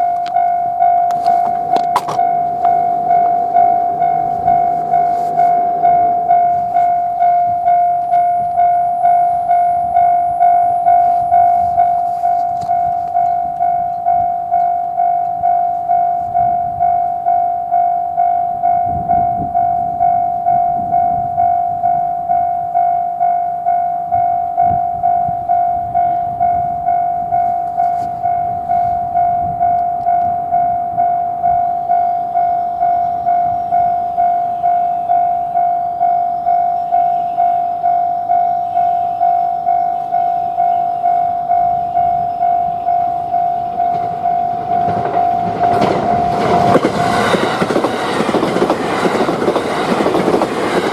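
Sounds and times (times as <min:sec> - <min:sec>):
level crossing bell clanging: 0:00.0 - 0:50.9
train rumbling past: 0:00.0 - 0:50.9.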